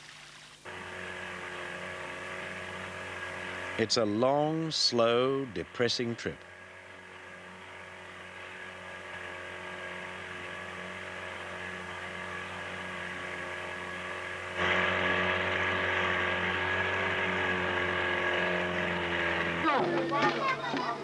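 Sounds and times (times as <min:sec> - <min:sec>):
outboard motor running: 0:00.6 - 0:21.0.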